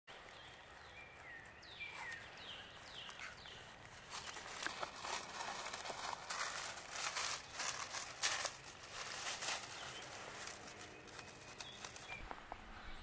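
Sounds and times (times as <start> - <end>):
bird chirping: 0.1 - 6.2, 6.9 - 13.0
footsteps in dry leaves: 0.2 - 12.5.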